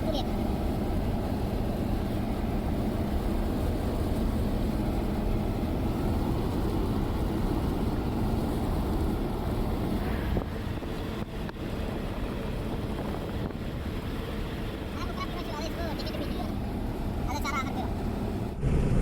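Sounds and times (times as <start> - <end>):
road noise: 0.0 - 19.0
vehicle engine: 0.0 - 19.0.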